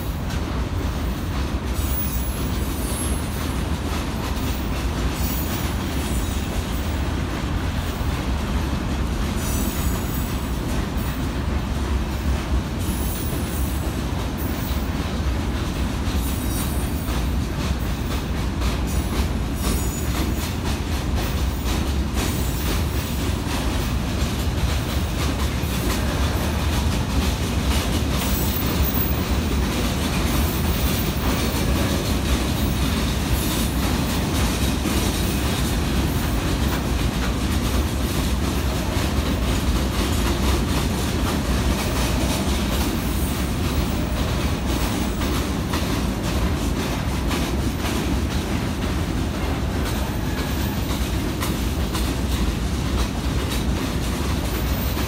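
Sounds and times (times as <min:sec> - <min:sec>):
wagon wheels rumbling on rails: 0:00.0 - 0:55.0.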